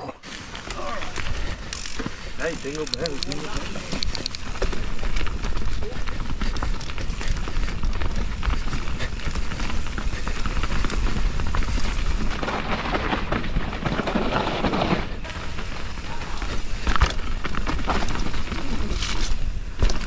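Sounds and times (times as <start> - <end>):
bike clattering and rattling: 0.2 - 20.0
tyres rolling over dirt: 0.2 - 20.0
tyres scraping through loose ground: 0.2 - 20.0
wind rumbling on microphone: 2.3 - 20.0.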